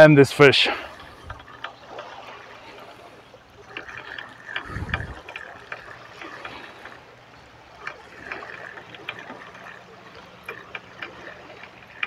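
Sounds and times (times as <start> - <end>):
small waves lapping on shore: 0.0 - 12.0.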